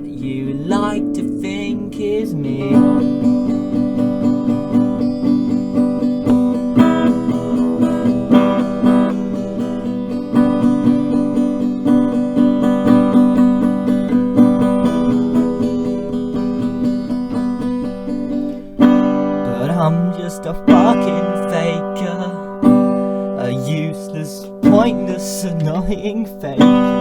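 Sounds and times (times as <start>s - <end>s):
strummed acoustic guitar: 0.0s - 27.0s.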